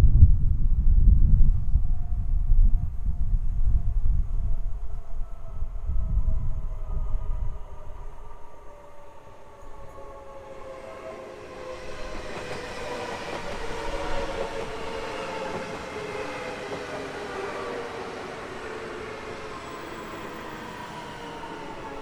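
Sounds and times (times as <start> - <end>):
train rumble: 0.1 - 22.0.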